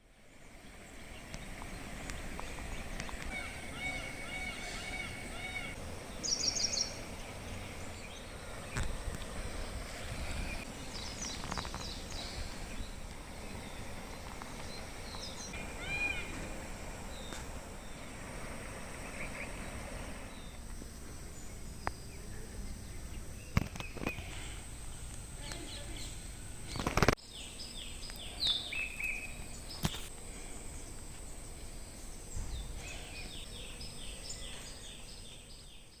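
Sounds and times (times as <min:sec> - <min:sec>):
birds chirping: 0:00.0 - 0:36.0
outdoor background hiss: 0:00.0 - 0:36.0.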